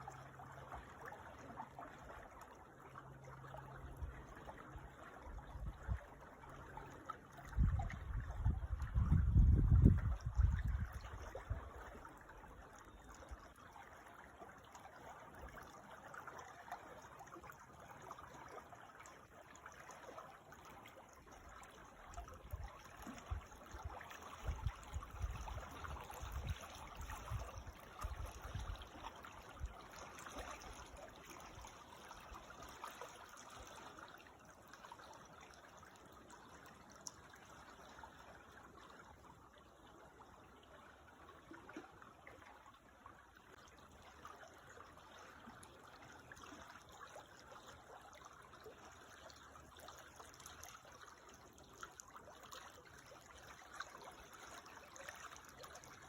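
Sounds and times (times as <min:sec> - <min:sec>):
creek water trickling: 0:00.0 - 0:56.0.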